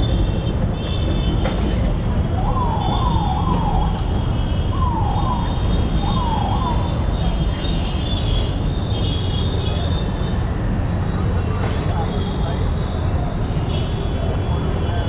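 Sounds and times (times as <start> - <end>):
road rumble: 0.0 - 15.0
wind: 0.0 - 15.0.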